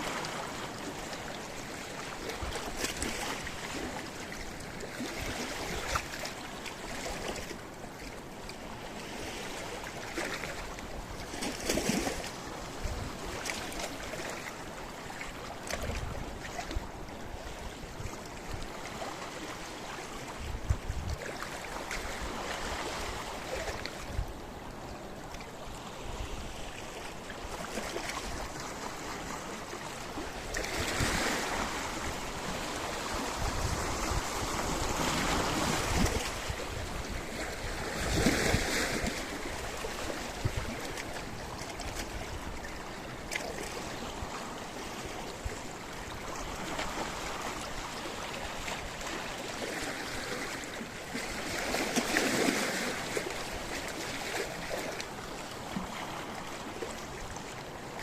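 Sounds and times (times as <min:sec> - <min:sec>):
waves breaking on rocky shore: 0:00.0 - 0:58.0.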